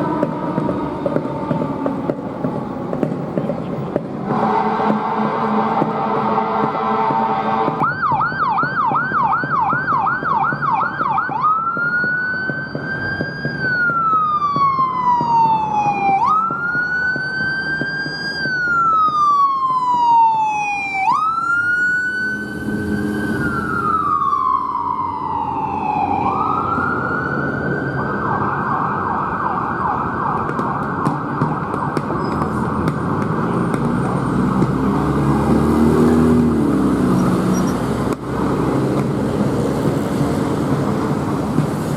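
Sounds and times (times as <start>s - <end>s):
emergency vehicle siren: 0.0s - 41.9s
engine and road noise: 0.0s - 41.9s.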